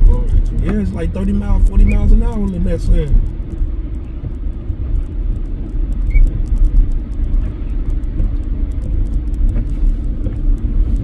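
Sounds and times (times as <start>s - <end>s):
road noise in snow: 0.0s - 11.0s
truck engine rumble: 0.0s - 11.0s.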